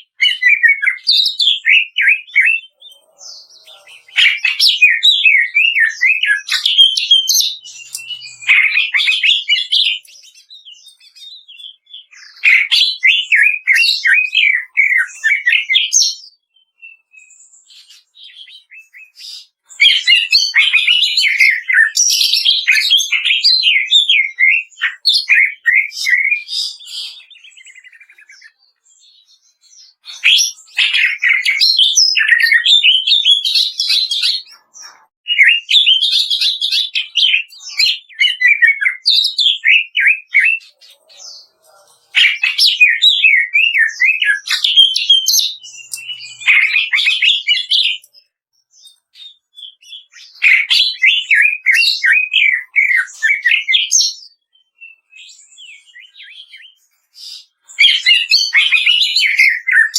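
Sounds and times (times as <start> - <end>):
bird singing rapid trills: 0.0 - 59.9.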